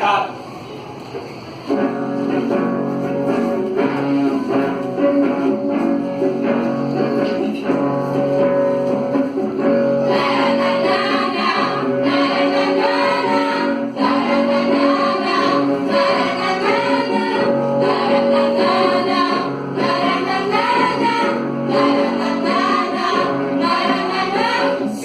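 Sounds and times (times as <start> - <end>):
strummed guitar: 1.7 - 25.0.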